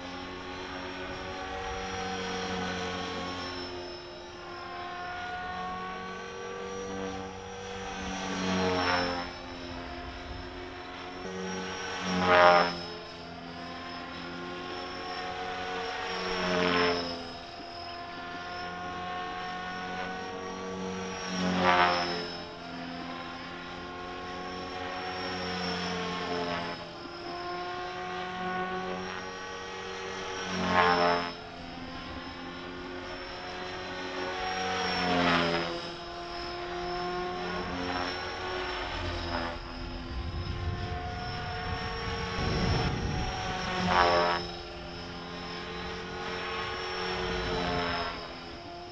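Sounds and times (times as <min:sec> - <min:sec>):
rc helicopter motor whine: 0:00.0 - 0:48.9.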